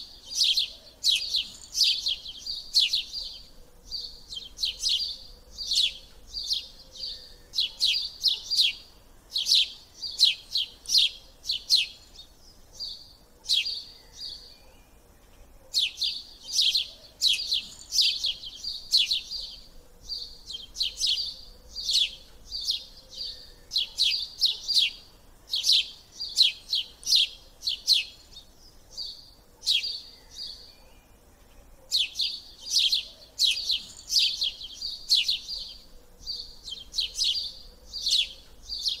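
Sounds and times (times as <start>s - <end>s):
small bird chirping: 0.0s - 39.0s.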